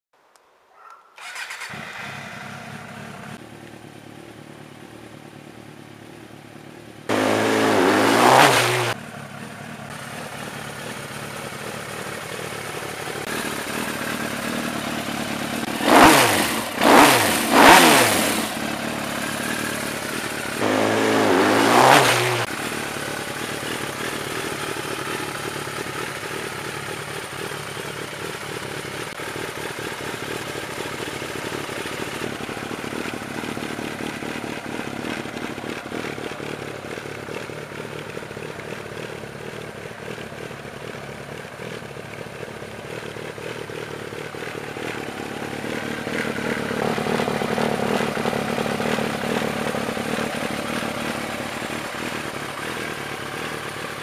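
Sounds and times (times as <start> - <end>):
motorcycle engine revving: 1.2 - 54.0.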